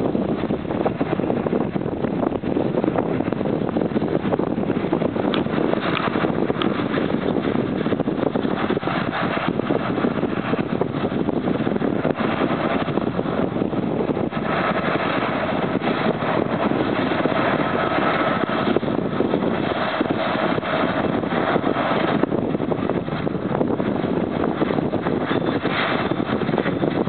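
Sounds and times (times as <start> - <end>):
faint whine: 0.0 - 27.0
tractor engine running: 2.2 - 27.0
distant baler working: 3.2 - 27.0.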